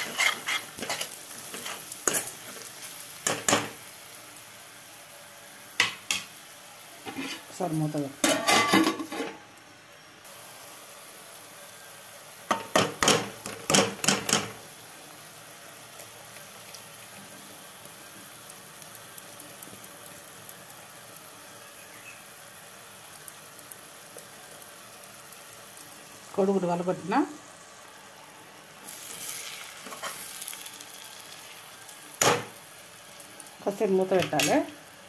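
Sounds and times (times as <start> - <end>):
onion frying with quiet sizzle: 0.0 - 35.0.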